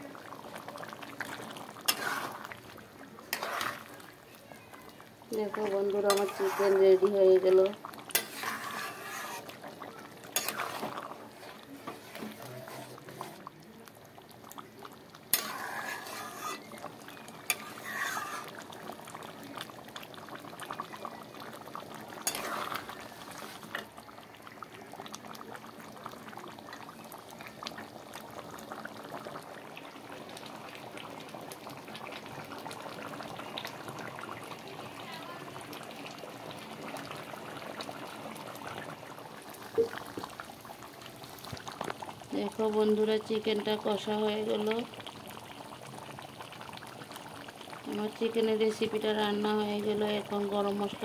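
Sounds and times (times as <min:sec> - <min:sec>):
curry simmering and bubbling: 0:00.0 - 0:51.0.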